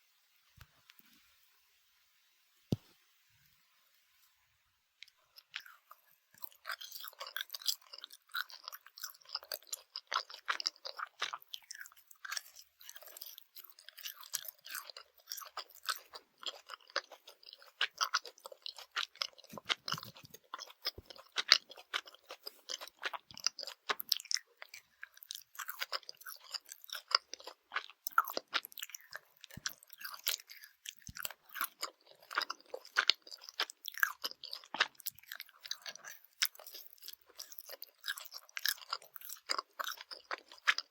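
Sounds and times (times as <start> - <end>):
chewing gummy candy: 5.0 - 40.9.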